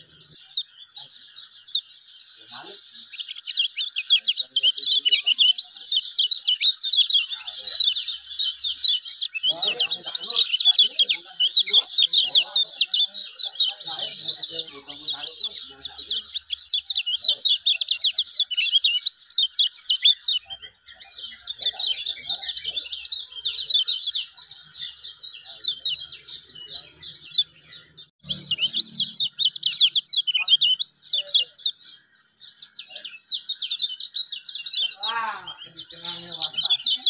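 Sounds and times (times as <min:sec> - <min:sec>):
bird singing rapid high chirps: 0:00.0 - 0:37.0.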